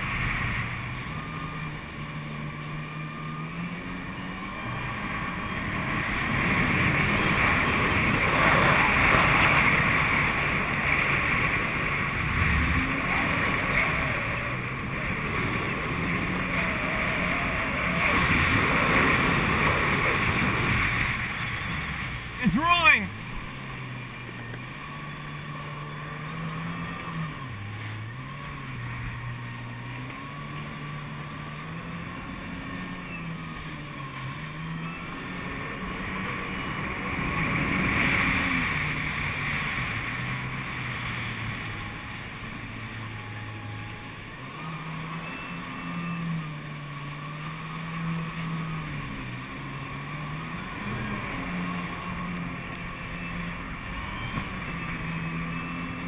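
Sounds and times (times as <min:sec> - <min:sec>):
jet ski engine running: 0:00.0 - 0:56.0
water rushing and spray: 0:00.0 - 0:56.0.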